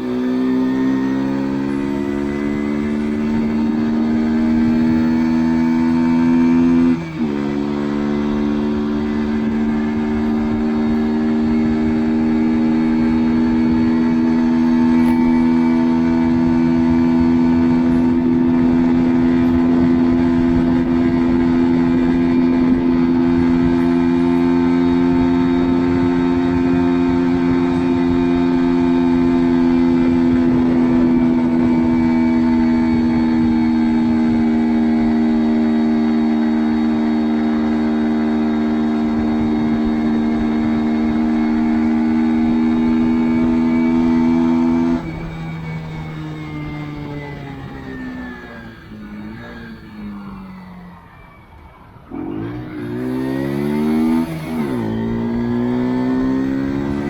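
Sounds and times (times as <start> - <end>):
small engine at high revs: 0.0 - 57.0.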